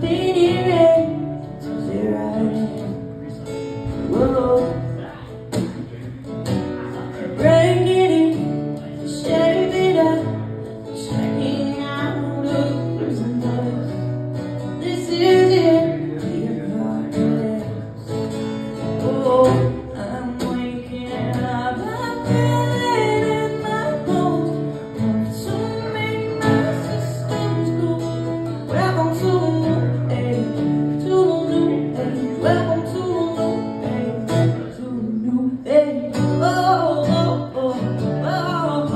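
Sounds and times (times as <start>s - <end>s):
woman singing: 0.0s - 3.3s, 3.9s - 5.6s, 7.0s - 38.9s
strummed acoustic guitar: 0.0s - 38.9s.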